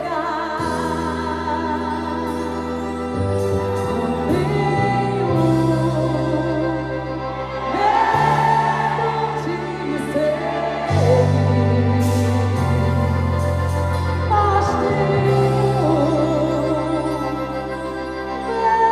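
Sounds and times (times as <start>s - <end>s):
person singing: 0.0s - 18.9s
song with held bass notes: 0.0s - 18.9s.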